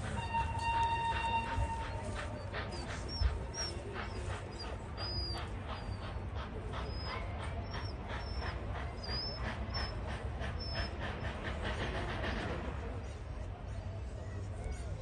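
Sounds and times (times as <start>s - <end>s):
steam locomotive exhaust beats: 0.0s - 14.9s.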